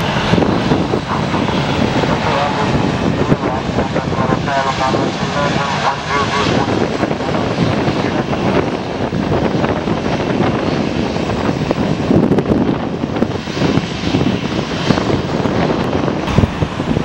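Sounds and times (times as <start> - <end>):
jet engines landing: 0.0 - 17.0
wind buffeting microphone: 0.0 - 17.0.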